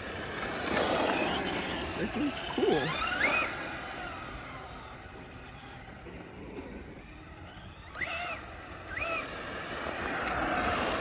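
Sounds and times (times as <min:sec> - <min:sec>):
electric motor whining: 0:00.0 - 0:11.0
toy truck rumbling: 0:00.0 - 0:11.0.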